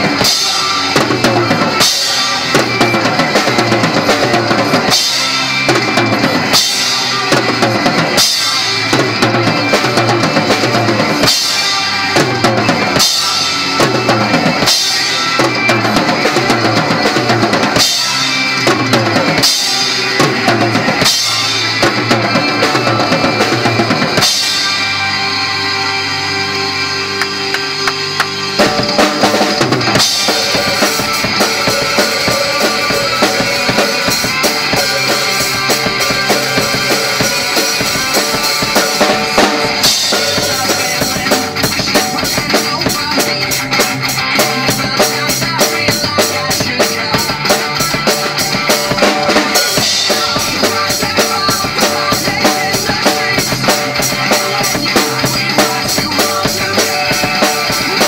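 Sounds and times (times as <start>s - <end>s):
drum kit playing: 0.0s - 58.0s
recorded rock song: 0.0s - 58.0s.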